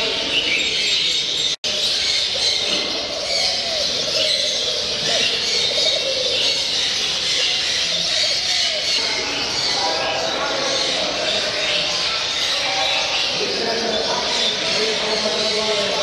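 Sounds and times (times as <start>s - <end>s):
caged birds chirping and calling: 0.0s - 16.0s.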